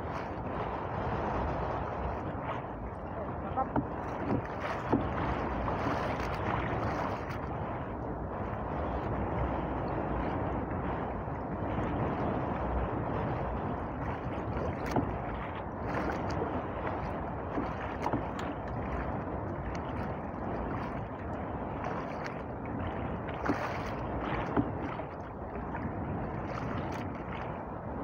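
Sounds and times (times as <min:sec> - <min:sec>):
sea water against boat hull: 0:00.0 - 0:28.0
wind: 0:00.0 - 0:28.0.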